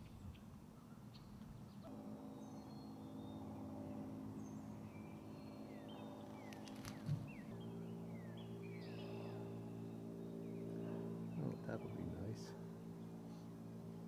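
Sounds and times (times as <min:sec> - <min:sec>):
birds chirping: 0:00.0 - 0:14.0
soft low chord music: 0:01.8 - 0:14.0.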